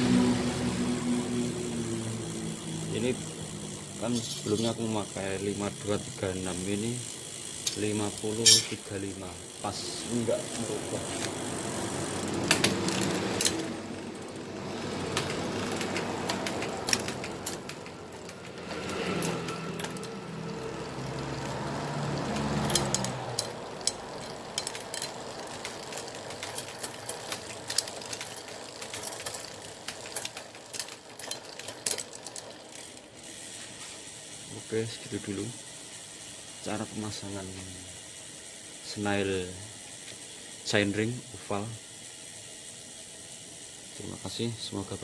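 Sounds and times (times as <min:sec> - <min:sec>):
bicycle chain whirring: 0:00.0 - 0:45.0
sharp drivetrain clicks: 0:00.0 - 0:45.0.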